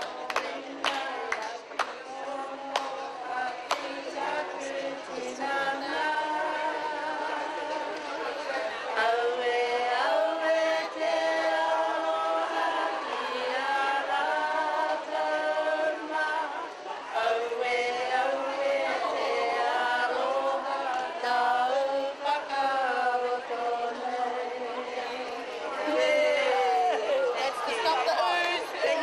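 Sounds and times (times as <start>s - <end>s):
women singing in harmony: 0.0s - 29.0s.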